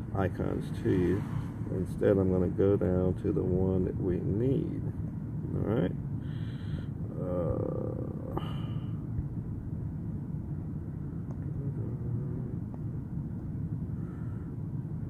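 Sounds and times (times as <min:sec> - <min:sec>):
low rumble inside a car: 0:00.0 - 0:15.0.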